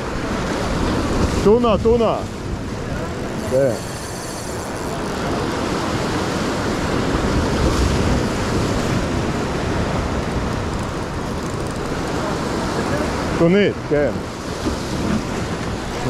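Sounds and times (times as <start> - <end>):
surf washing against rocks: 0.0 - 16.0
wind buffeting microphone: 0.0 - 16.0.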